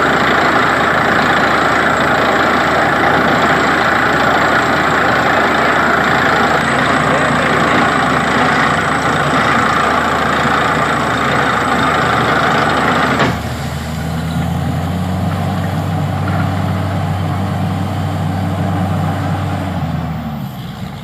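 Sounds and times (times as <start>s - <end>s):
rig engine humming: 0.0s - 21.0s.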